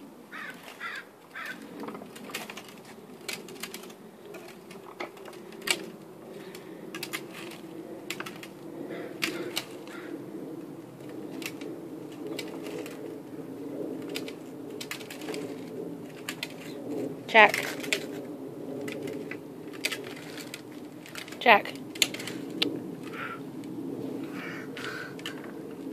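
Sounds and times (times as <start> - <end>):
plastic tricycle clicking on concrete: 0.3 - 23.8, 24.7 - 25.9.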